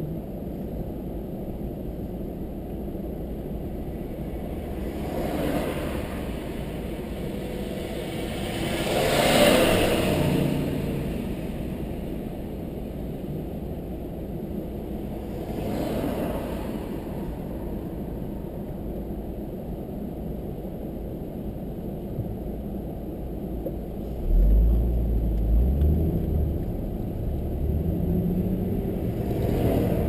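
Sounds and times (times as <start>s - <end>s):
car engine and tyre rumble: 0.0s - 30.0s
vehicles passing by: 1.0s - 20.4s, 23.7s - 30.0s.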